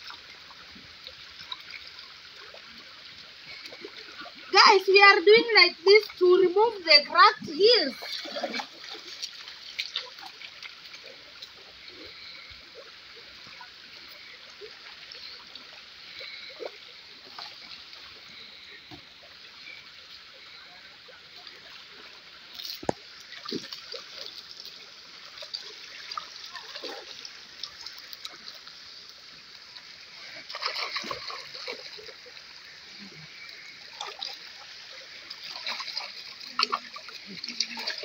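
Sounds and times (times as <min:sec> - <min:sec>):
river water running over rocks: 0:00.0 - 0:38.0
water splashing: 0:00.0 - 0:38.0.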